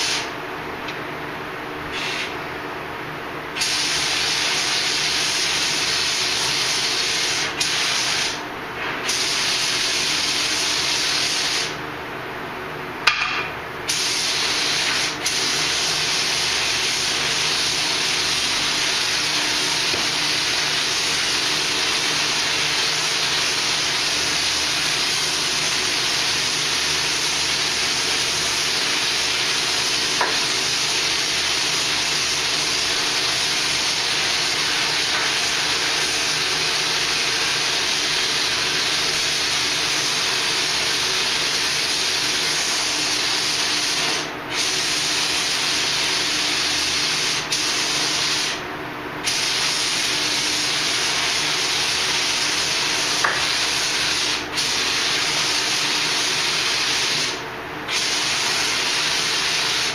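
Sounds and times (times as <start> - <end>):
spray gun hissing: 0.0 - 0.3, 1.9 - 2.3, 3.6 - 11.8, 13.9 - 48.6, 49.2 - 59.9.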